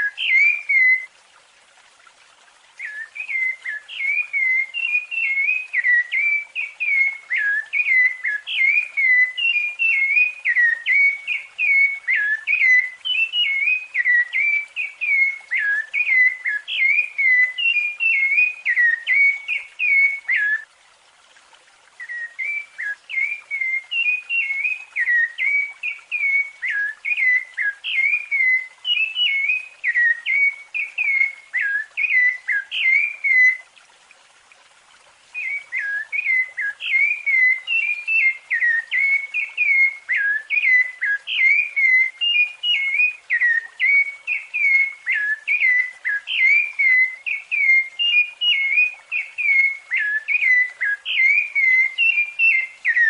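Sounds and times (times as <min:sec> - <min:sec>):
thrush singing whistled notes: 0:00.0 - 0:01.1, 0:02.8 - 0:20.7, 0:22.0 - 0:33.7, 0:35.3 - 0:53.0.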